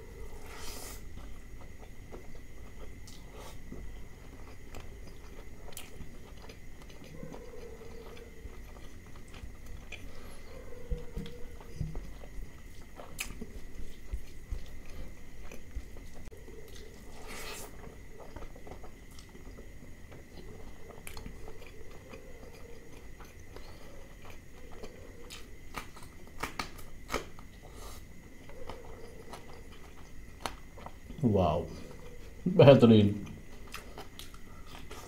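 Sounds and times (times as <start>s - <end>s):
man chewing: 0.0s - 31.2s, 33.2s - 35.0s.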